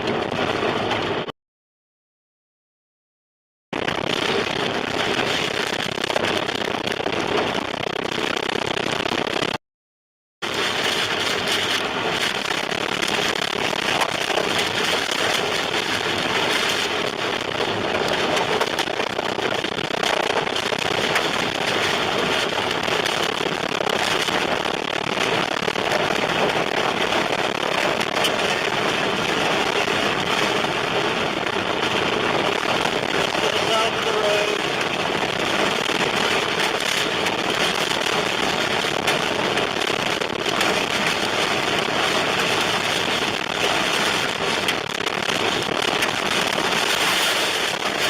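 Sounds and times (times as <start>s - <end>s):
wind and rain battering car: 0.0s - 1.3s, 3.7s - 9.6s, 10.4s - 48.0s.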